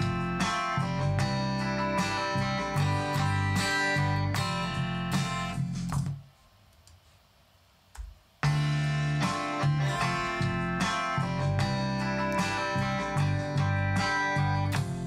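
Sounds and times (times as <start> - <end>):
guitar chords strummed: 0.0 - 6.0, 8.4 - 15.0.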